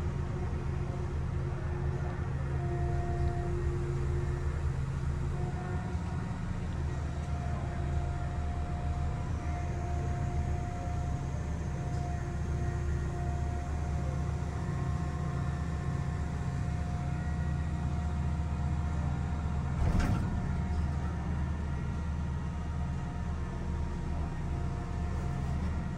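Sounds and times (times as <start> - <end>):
diesel engine rumble: 0.0 - 25.9.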